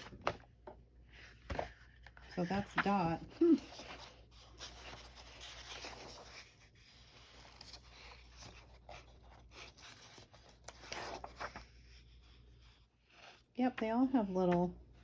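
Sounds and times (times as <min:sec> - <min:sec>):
paper rustling and sliding: 0:00.0 - 0:13.5.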